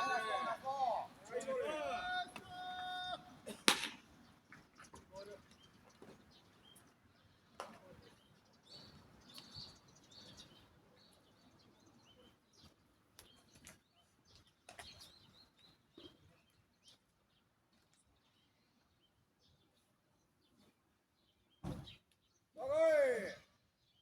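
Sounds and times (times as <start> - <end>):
low background noise: 0.0 - 21.6.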